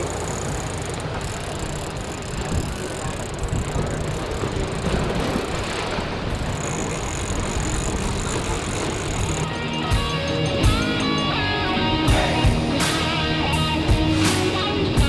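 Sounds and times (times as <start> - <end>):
outboard engines running: 0.0 - 15.0
water rushing: 0.0 - 15.0
wind: 0.0 - 15.0.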